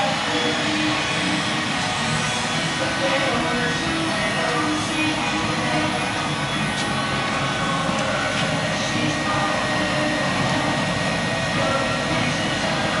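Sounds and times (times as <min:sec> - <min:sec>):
faint high whine: 0:00.0 - 0:13.0
fan and blower noise: 0:00.0 - 0:13.0.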